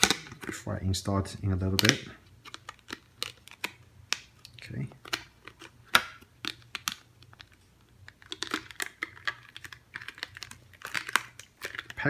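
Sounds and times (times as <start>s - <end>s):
plastic tray clicking and crackling: 1.6s - 12.0s.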